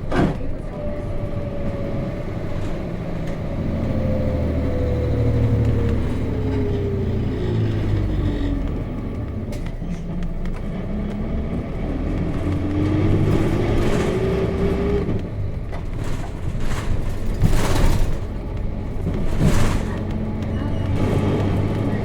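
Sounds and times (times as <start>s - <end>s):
bus diesel engine accelerating: 0.0s - 22.0s.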